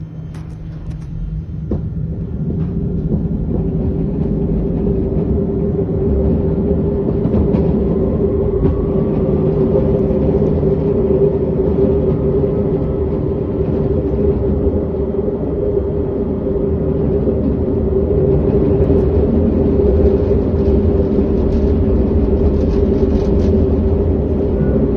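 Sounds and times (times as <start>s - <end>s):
tram motor hum and rumble: 0.0s - 24.9s.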